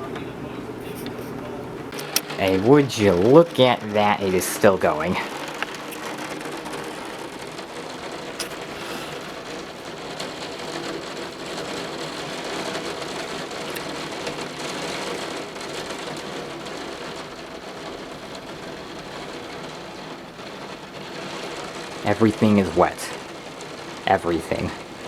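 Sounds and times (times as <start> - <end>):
torrential rain: 0.0 - 25.0.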